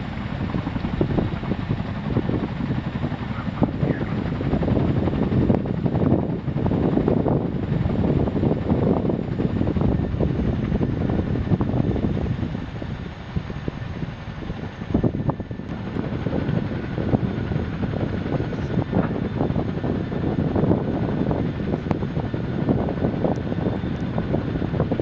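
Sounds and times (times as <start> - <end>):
helicopter engines running: 0.0 - 25.0
helicopter rotors beating: 0.0 - 25.0.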